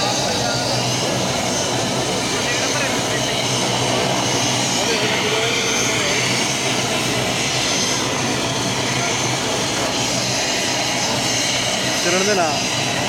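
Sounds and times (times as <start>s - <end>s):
helicopter turbine and rotor: 0.0s - 13.0s.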